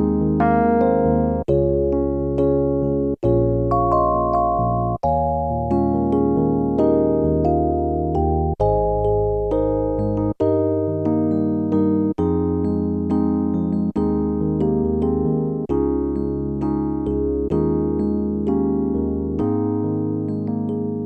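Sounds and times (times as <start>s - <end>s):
electric piano music: 0.0s - 21.0s.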